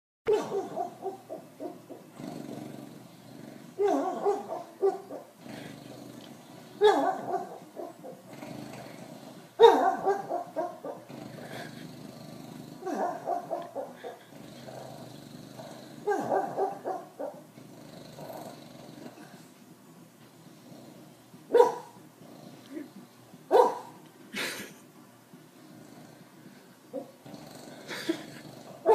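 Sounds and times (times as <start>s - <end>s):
dog barking and growling in sleep: 0.3s - 28.9s.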